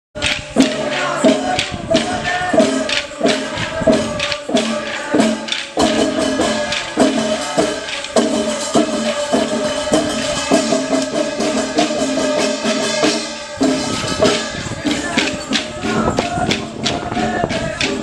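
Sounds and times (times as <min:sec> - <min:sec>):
steady percussion beat: 0:00.2 - 0:18.0.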